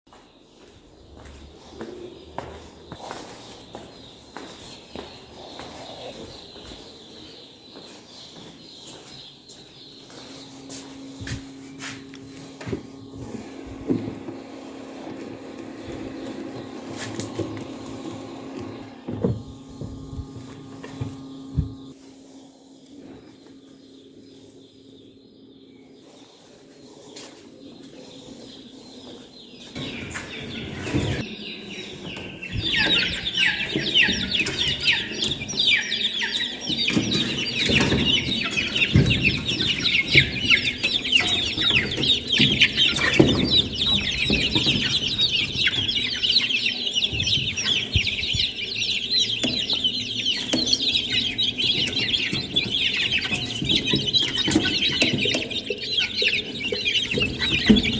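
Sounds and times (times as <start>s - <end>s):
chickens clucking: 0.1s - 57.9s.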